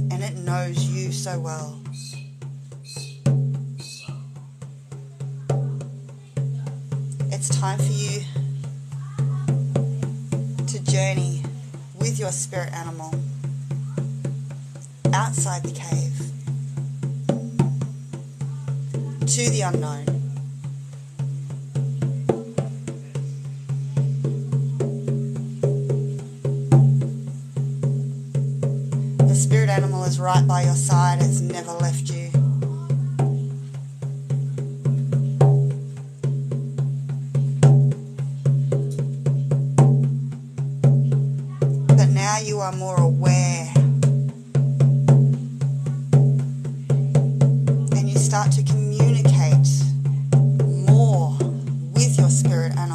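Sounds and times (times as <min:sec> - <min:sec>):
frame drum steady beat: 0:00.0 - 0:52.9.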